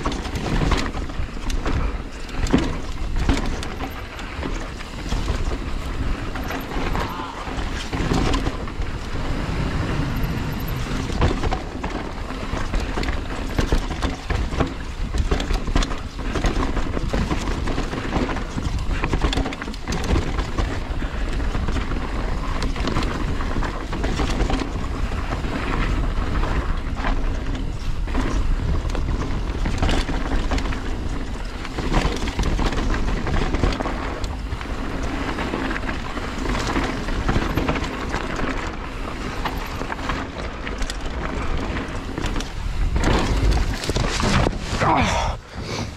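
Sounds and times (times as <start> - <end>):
bike knocking and rattling: 0.0 - 45.9
bike tyres on dirt and rock: 0.0 - 45.9.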